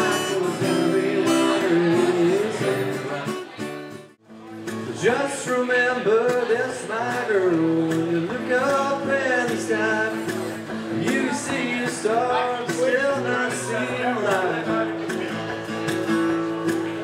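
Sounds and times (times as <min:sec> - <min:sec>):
man singing: 0:00.0 - 0:03.5, 0:04.7 - 0:15.6
strummed acoustic guitar: 0:00.0 - 0:17.0.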